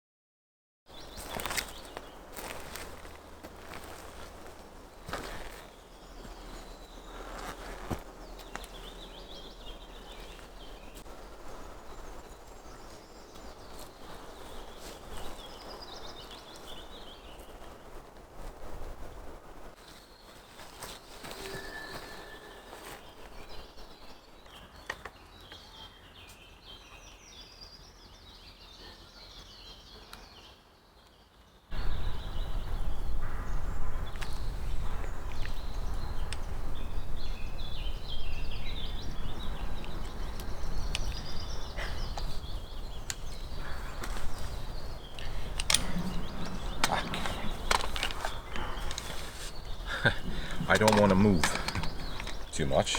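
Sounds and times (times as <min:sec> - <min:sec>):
small birds chirping: 0:00.9 - 0:52.9.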